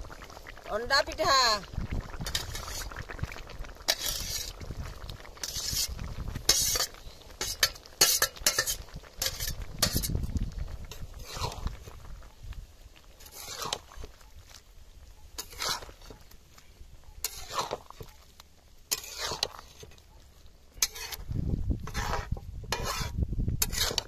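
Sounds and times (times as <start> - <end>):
metal spatula scraping a pot: 2.2 - 12.0, 13.0 - 14.6, 15.2 - 24.0.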